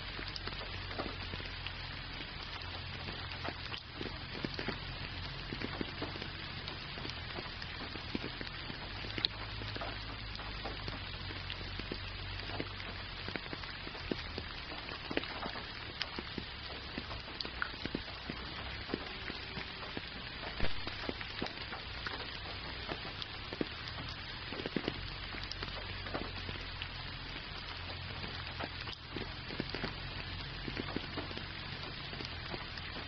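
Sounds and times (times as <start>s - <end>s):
rain falling: 0.0s - 33.0s
raindrops ticking: 0.0s - 33.0s.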